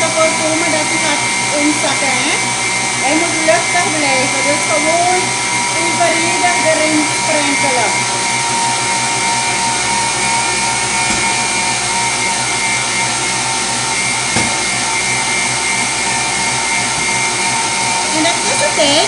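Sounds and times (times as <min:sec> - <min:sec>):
stand mixer motor whine: 0:00.0 - 0:19.0.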